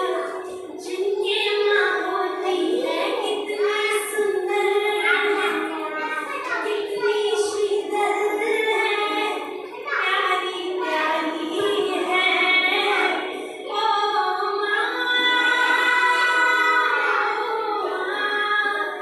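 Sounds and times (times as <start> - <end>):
child singing: 0.0 - 19.0
children's song music backing: 0.0 - 19.0.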